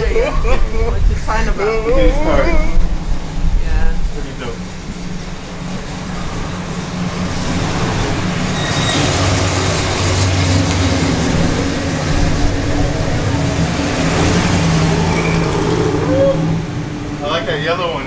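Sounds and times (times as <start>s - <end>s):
car engines rolling past: 0.0s - 18.0s.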